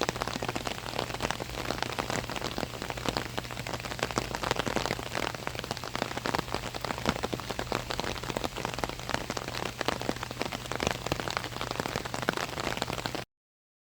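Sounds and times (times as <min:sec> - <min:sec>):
rain pattering on an umbrella: 0:00.0 - 0:13.3.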